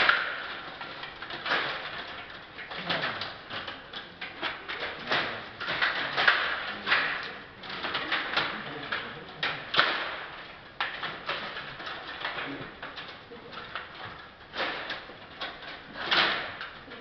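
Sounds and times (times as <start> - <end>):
table hockey knocks and rattles: 0.0 - 17.0.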